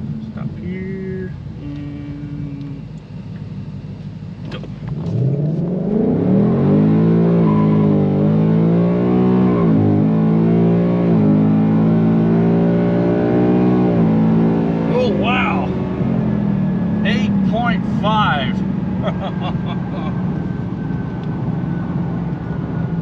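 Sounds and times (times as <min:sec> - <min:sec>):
car engine accelerating through gears: 0:04.4 - 0:23.0.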